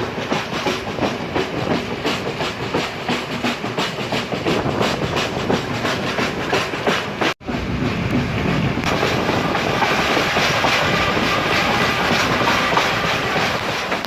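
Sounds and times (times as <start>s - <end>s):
train carriage rumble and hiss: 0.0s - 14.0s
train wheels clicking over rail joints: 0.0s - 14.0s.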